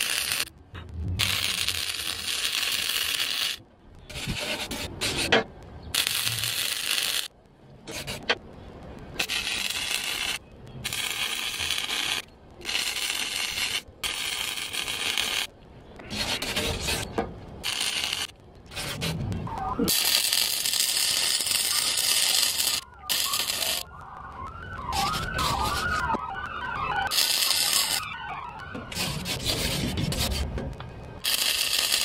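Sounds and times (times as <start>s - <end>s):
welder arc crackling: 0.0s - 32.0s.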